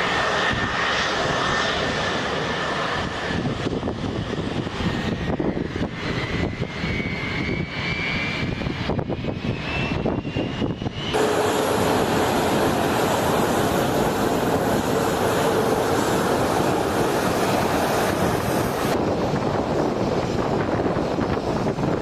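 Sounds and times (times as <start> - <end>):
jet engine whine and rumble: 0.0 - 22.0.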